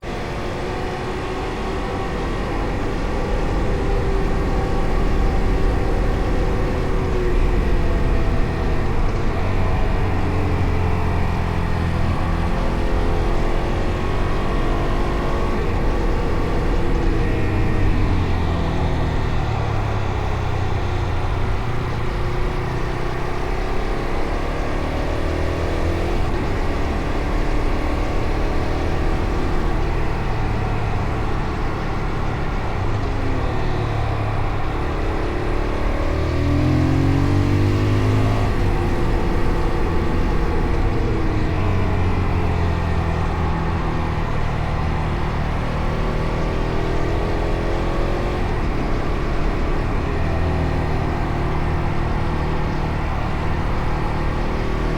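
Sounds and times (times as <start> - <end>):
motorcycle engine accelerating: 0.0 - 54.9
wind and road noise: 0.0 - 54.9.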